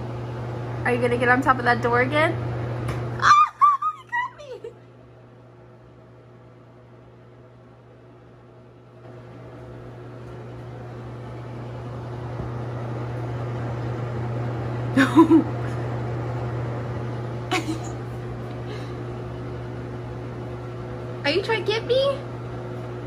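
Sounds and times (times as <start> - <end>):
low electric hum: 0.0 - 23.0.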